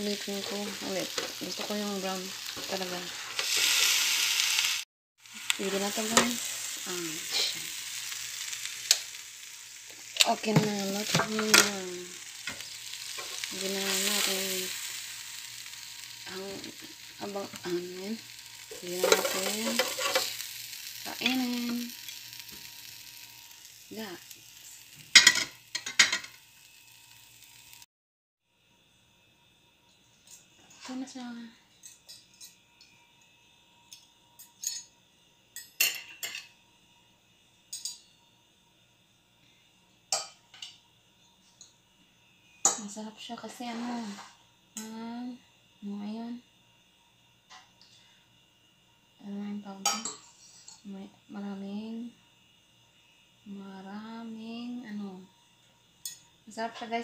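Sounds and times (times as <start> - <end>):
chicken sizzling on a grill: 0.0 - 27.9, 30.3 - 32.8, 40.0 - 40.9, 41.5 - 57.0.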